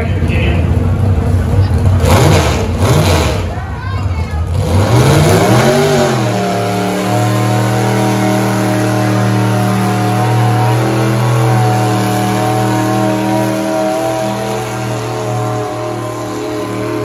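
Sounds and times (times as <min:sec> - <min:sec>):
tractor engine working under load: 0:00.0 - 0:17.0.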